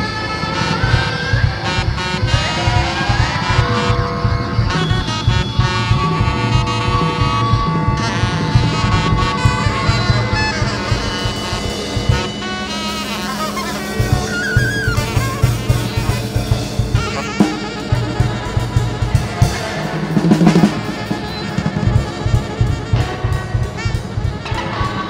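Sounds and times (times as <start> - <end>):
drum kit played with sticks: 0.0 - 25.0
saxophone: 0.0 - 25.0
steady low drone: 0.0 - 25.0.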